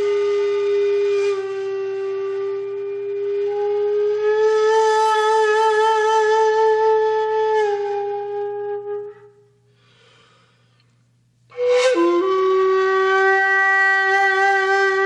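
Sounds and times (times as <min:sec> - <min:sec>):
flute-like wavering note: 0:00.0 - 0:09.7, 0:11.5 - 0:15.0.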